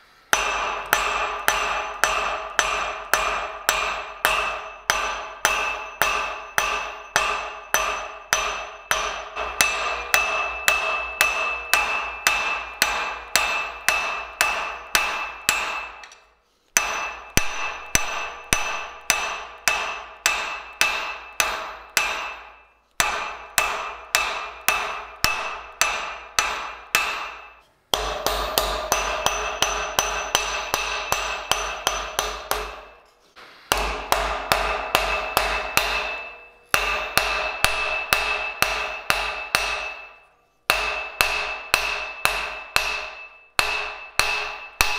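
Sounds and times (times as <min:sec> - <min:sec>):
hammer striking on anvil: 0:00.3 - 0:44.9.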